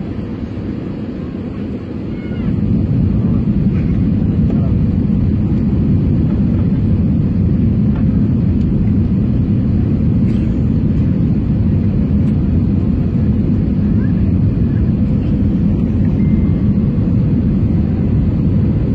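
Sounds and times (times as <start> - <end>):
jet airliner cabin rumble: 0.0 - 18.9.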